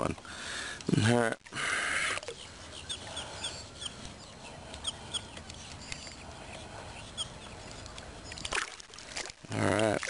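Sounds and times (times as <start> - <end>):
faint water sloshing: 1.4 - 10.0.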